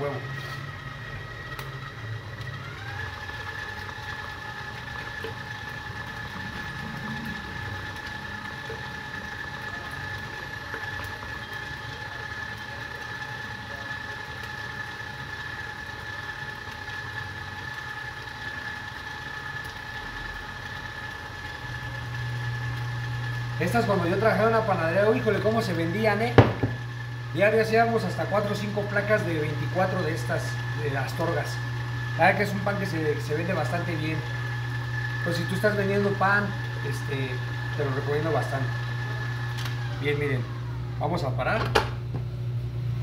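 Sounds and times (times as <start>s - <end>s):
stand mixer motor whine: 0.0s - 43.0s.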